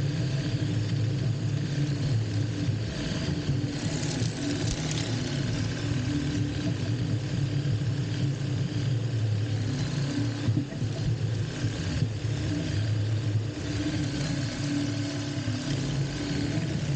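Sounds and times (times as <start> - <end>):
low hum: 0.0 - 16.9.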